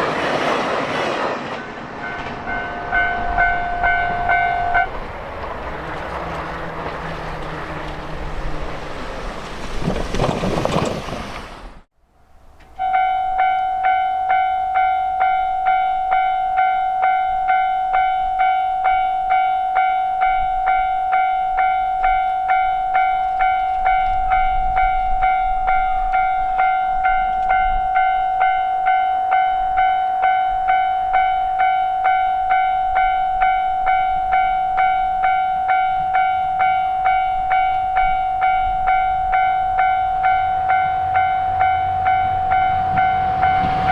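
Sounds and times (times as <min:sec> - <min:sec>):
train passing: 0:00.0 - 0:43.9
level crossing warning bell: 0:01.6 - 0:09.0, 0:12.7 - 0:43.9.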